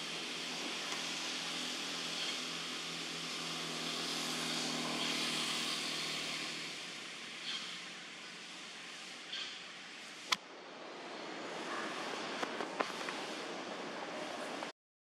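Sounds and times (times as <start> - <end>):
distant engine hum: 0.0 - 14.7
steady outdoor hiss: 0.0 - 14.7.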